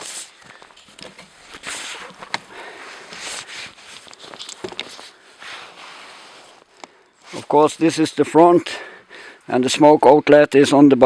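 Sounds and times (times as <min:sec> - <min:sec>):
footsteps and shuffling: 0:00.0 - 0:10.0.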